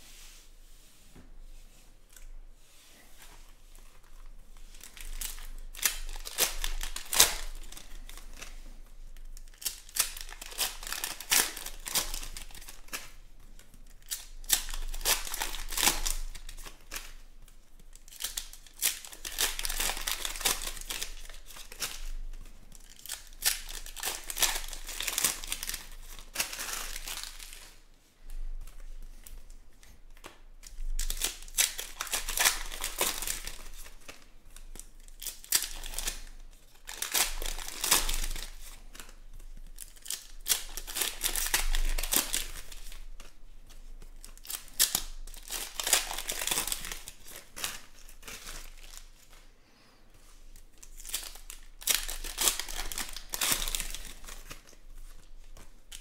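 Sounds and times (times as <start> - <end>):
foil wrappers tearing and crinkling: 4.8 - 8.6, 9.2 - 13.2, 13.9 - 17.2, 17.9 - 27.8, 30.6 - 49.4, 50.7 - 56.0.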